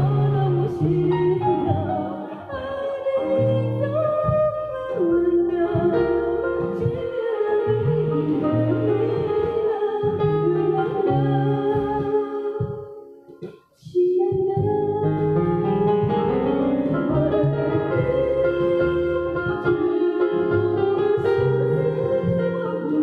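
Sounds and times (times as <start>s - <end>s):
woman singing into a microphone: 0.0s - 16.3s, 16.9s - 23.0s
electronic keyboard accompaniment: 0.0s - 23.0s.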